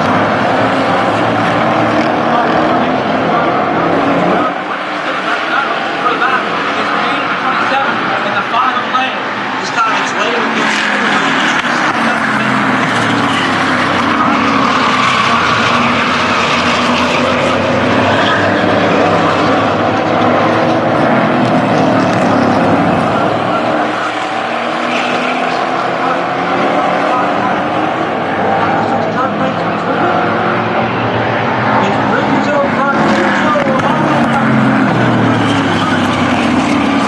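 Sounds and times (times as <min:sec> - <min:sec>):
racing truck engines: 0:00.0 - 0:37.0.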